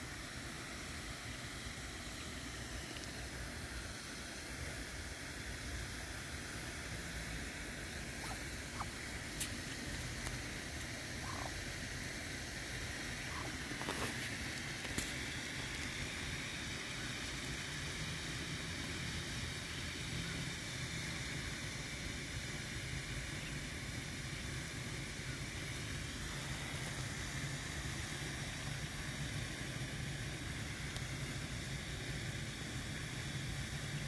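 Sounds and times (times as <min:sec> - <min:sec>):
even hiss: 0:00.0 - 0:34.0.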